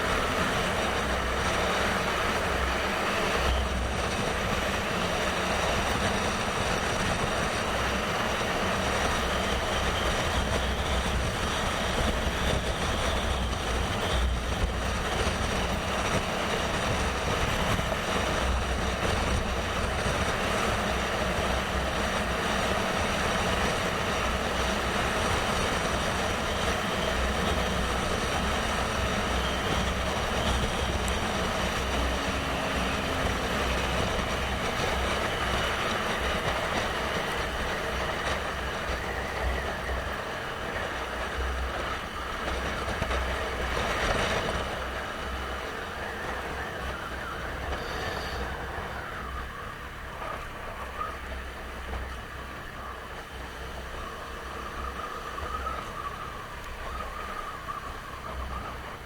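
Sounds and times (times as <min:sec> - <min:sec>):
motorcycle engine and road rumble: 0:00.0 - 0:59.0
wind rushing over microphone: 0:00.0 - 0:59.0.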